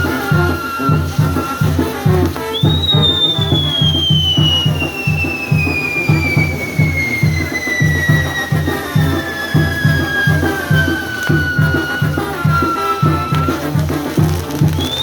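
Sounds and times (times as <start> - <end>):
band music with bass beat: 0.0 - 15.0
whistling firework: 0.0 - 15.0.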